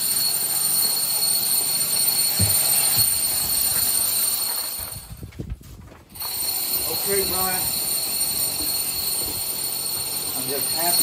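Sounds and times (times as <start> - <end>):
power drill whining: 0.0 - 5.4, 6.1 - 11.0.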